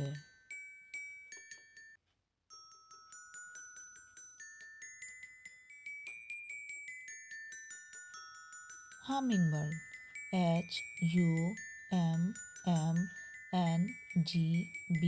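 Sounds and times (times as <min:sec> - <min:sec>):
bell-like mallet percussion melody: 0:00.0 - 0:15.0.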